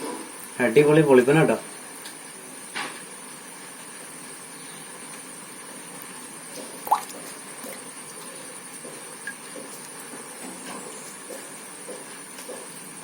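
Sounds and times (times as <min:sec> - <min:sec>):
aquarium water hissing: 0:00.2 - 0:13.0.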